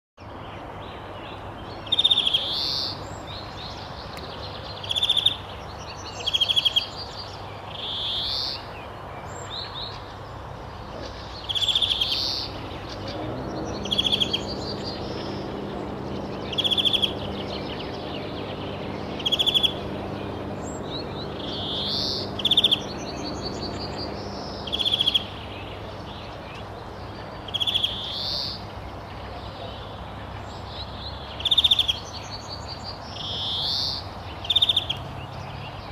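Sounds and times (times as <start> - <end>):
steady outdoor hiss: 0.2 - 35.9
birds trilling and calling: 1.8 - 35.9.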